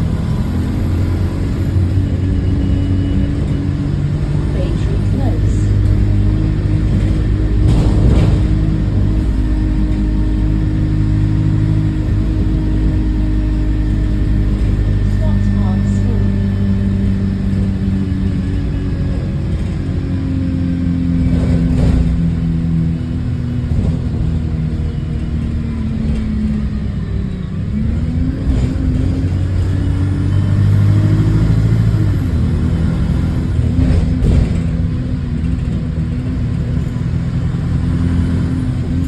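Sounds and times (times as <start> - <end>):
bus body knocking over bumps: 0.0 - 15.1, 16.4 - 27.0, 27.8 - 39.0
bus engine: 0.0 - 39.0.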